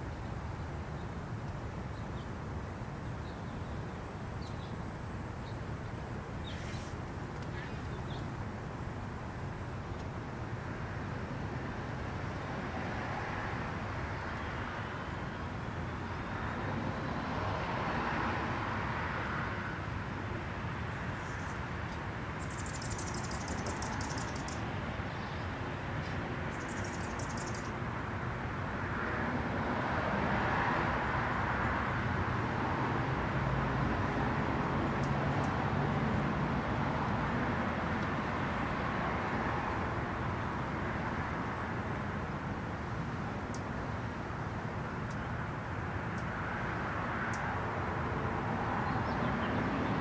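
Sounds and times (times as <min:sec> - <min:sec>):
traffic hum: 0:00.0 - 0:50.0
vehicles passing: 0:00.0 - 0:50.0.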